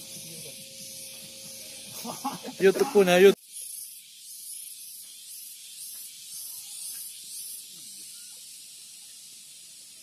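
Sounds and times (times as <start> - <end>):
insects hissing drone: 0.0 - 10.0.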